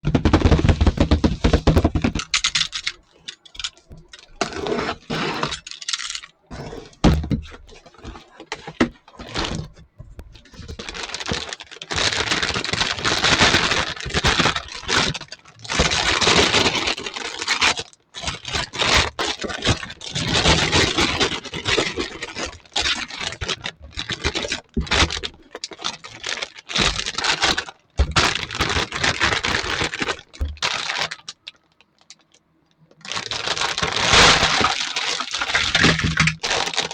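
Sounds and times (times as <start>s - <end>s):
plastic packaging crinkling: 0.0s - 36.9s
plastic toy pieces clattering: 0.1s - 9.8s, 10.4s - 31.4s, 33.0s - 36.9s.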